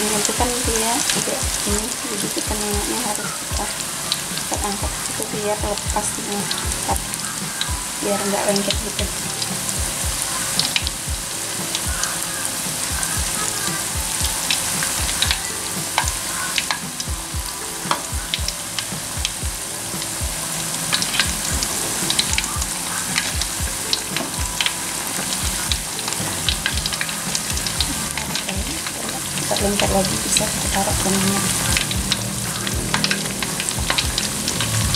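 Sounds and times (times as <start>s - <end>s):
batter sizzling in hot oil: 0.0s - 34.9s.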